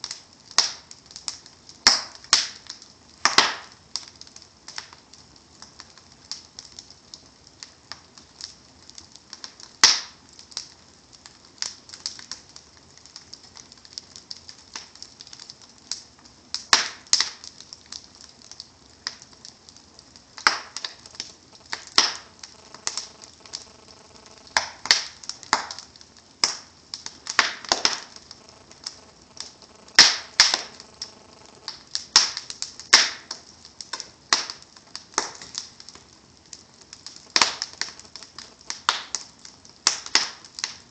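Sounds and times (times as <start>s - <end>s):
burning log pops: 0.0s - 40.9s
wood fire crackling: 0.0s - 40.9s.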